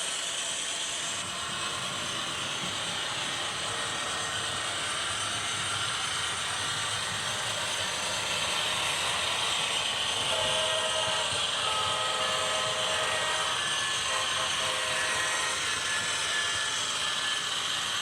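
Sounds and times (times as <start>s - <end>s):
hiss: 0.0s - 18.0s
train rumbling: 0.3s - 18.0s.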